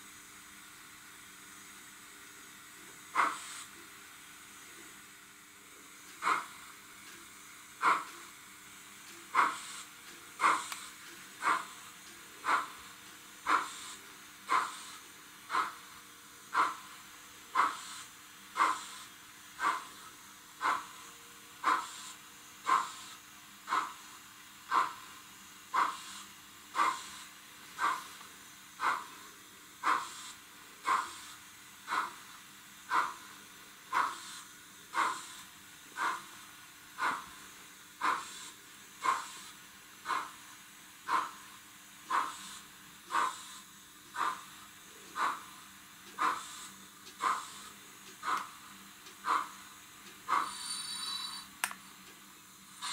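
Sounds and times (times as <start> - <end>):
model locomotive steam chuffs: 0.0 - 51.8, 52.4 - 52.9
faint steady hum: 0.0 - 52.9.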